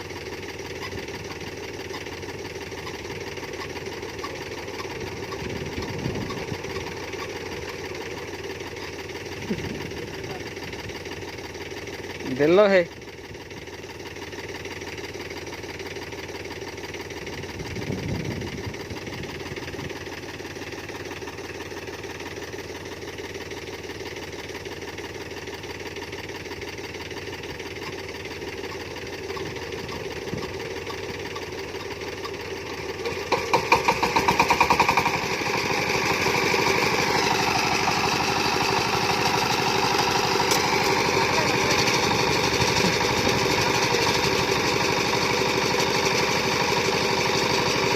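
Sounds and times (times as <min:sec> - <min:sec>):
diesel tractor engine running: 0:00.0 - 0:47.9.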